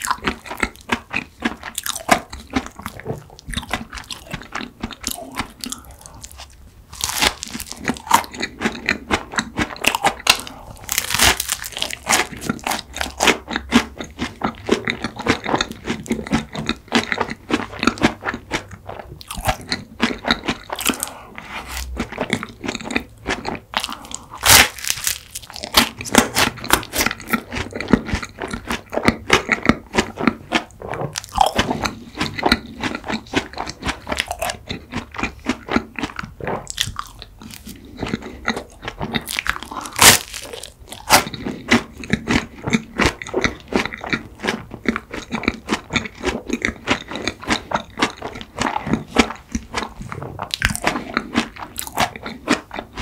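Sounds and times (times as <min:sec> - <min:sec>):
crunchy food being chewed: 0:00.0 - 0:53.0.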